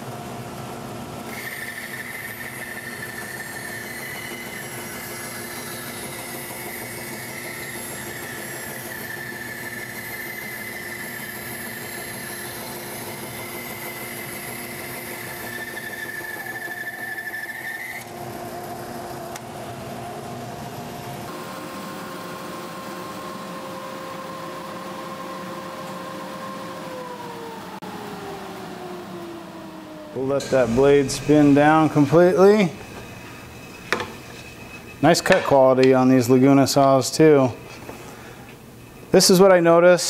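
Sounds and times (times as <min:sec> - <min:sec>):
dust collector running: 0:00.0 - 0:40.0
bandsaw blade whining in wood: 0:01.3 - 0:39.4
saw running: 0:01.3 - 0:40.0.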